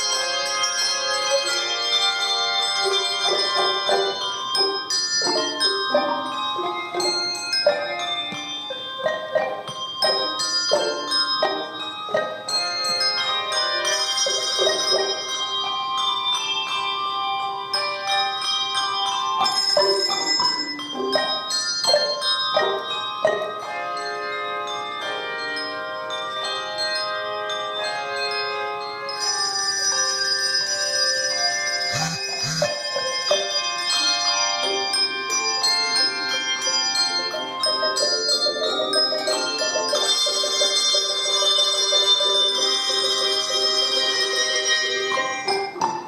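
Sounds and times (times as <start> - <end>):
handbell choir playing: 0.0 - 46.0.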